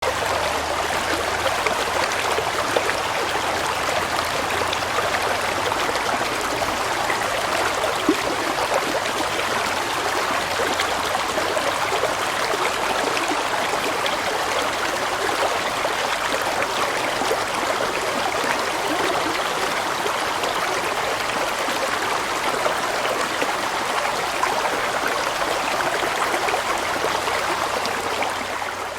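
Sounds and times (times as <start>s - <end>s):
water flowing: 0.0s - 28.9s.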